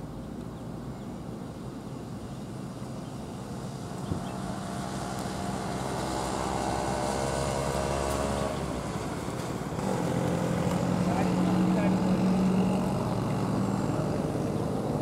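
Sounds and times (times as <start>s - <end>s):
bus engine: 0.0s - 15.0s
diesel truck engine: 1.4s - 15.0s.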